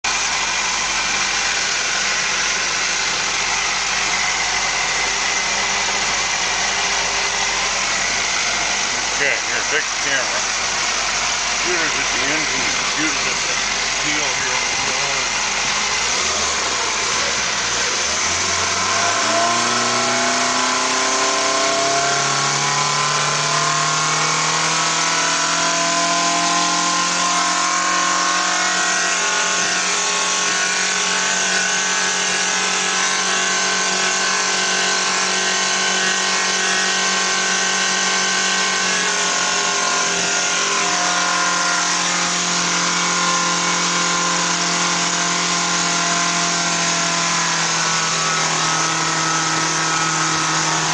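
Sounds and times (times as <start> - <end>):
outboard motor revving: 0.0 - 50.9.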